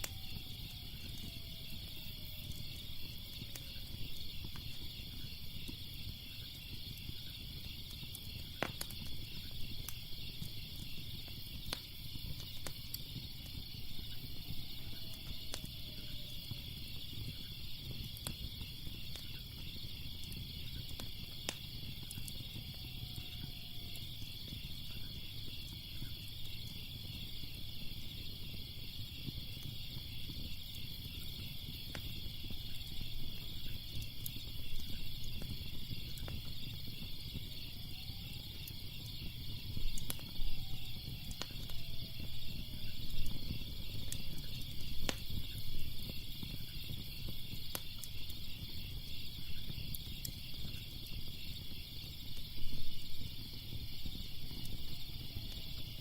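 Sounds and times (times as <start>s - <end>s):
burning wood crackling: 0.0s - 56.0s
crickets chirping: 0.0s - 56.0s
low fire rumble: 0.0s - 56.0s.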